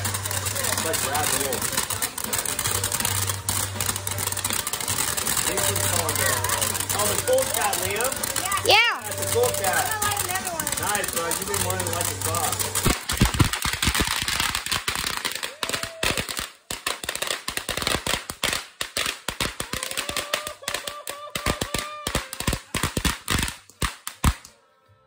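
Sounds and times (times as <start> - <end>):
firework sparks hissing: 0.0 - 24.5
crackling pops: 0.0 - 24.6.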